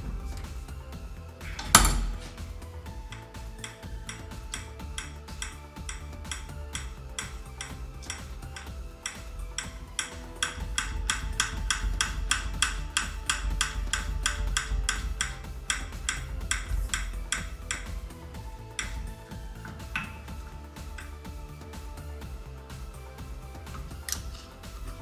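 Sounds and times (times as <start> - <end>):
rapid metallic clicking: 0.0 - 22.8
background music: 0.0 - 25.0.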